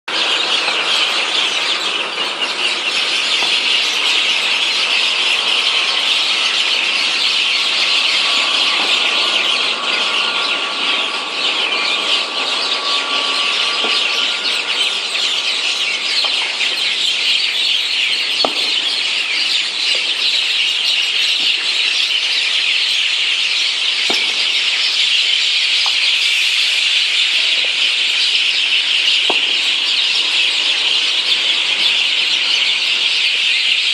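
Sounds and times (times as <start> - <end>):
flock of birds chirping: 0.1 - 33.9.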